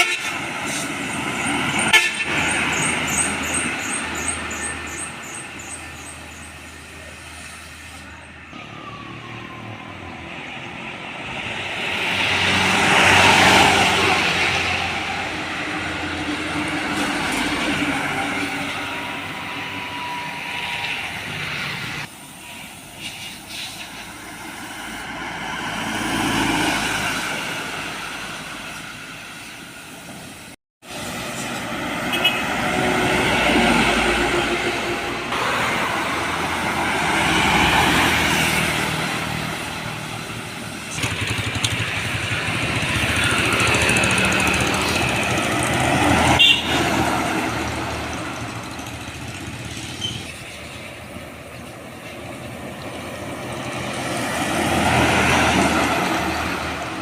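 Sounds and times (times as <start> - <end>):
trucks and buses driving past: 0.0 - 57.0.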